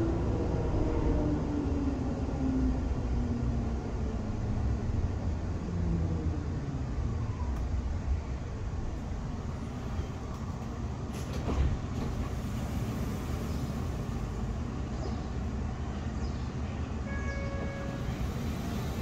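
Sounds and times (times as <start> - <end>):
tram cabin rumble: 0.0 - 19.0.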